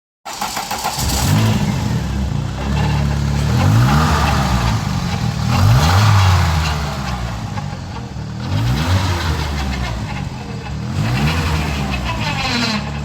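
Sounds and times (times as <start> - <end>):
car engine revving: 0.4 - 13.0.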